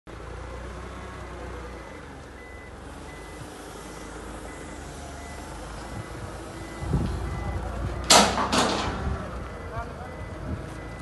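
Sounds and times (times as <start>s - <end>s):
forklift engine running: 0.1s - 11.0s
forklift reversing alarm beeps: 1.2s - 11.0s.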